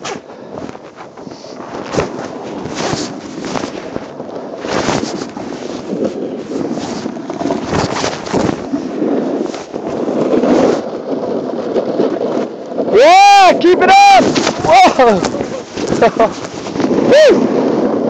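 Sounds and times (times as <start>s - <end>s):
microphone handling crackle: 0.0s - 12.9s, 13.8s - 18.0s
wind noise on microphone: 0.0s - 18.0s.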